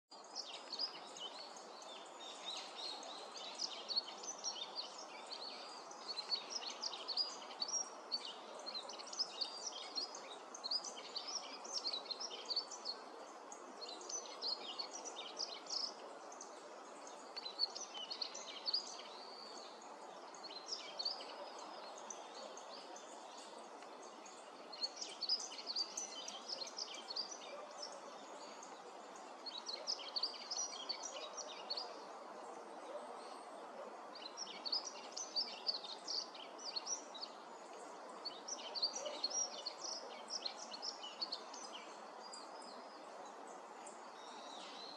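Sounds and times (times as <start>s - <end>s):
bird twittering song: 0.1s - 44.9s.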